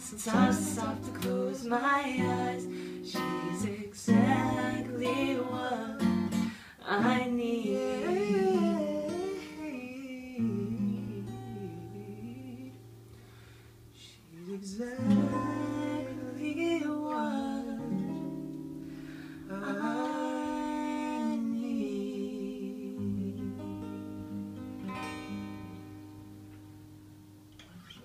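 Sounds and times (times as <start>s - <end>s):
acoustic guitar strumming: 0.0s - 14.0s, 14.8s - 22.2s, 22.9s - 28.0s.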